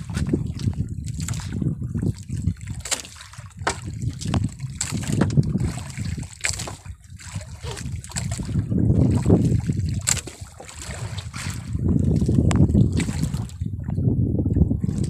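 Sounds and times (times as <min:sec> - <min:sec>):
water splashing against boat: 0:00.0 - 0:15.0.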